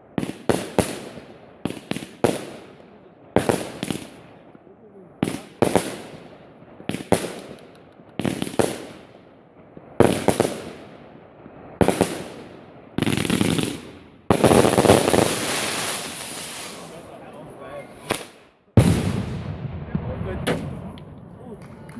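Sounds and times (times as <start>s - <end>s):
fireworks bangs: 0.0s - 21.9s
fireworks crackling: 0.0s - 21.9s.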